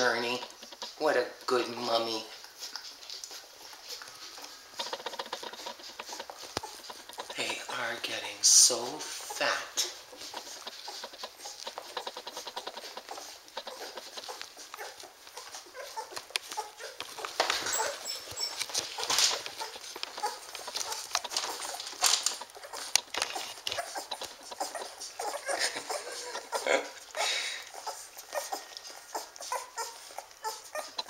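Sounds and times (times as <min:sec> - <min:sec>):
puppies suckling: 0:00.0 - 0:31.0
puppy squeaks: 0:02.6 - 0:07.4, 0:09.1 - 0:26.7, 0:27.7 - 0:31.0.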